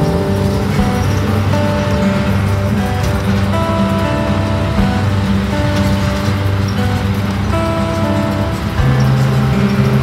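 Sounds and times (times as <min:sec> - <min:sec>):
music with held notes: 0:00.0 - 0:10.0
steady rushing noise: 0:00.0 - 0:10.0.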